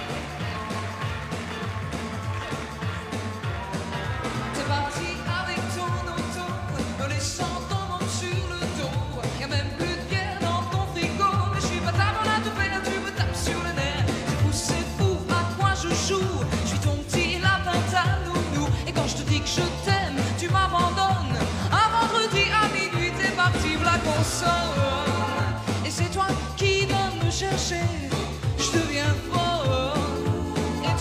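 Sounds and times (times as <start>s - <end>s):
band accompaniment: 0.0s - 31.0s
steady drum beat: 0.0s - 31.0s
woman singing pop song: 4.4s - 31.0s.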